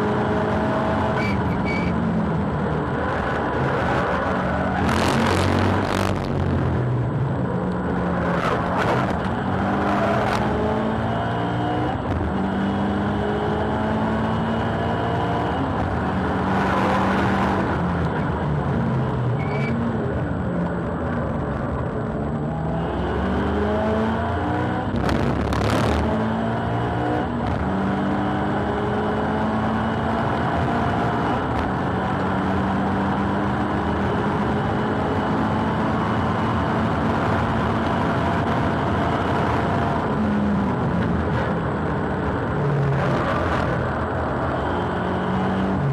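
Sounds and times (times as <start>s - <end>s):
car engine revving through gears: 0.0s - 45.9s.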